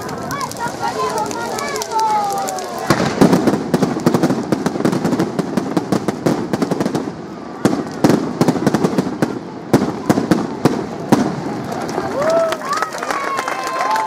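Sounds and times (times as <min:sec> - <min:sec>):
loud firework bangs: 0:00.0 - 0:12.4
fireworks crackling and popping: 0:00.0 - 0:14.0.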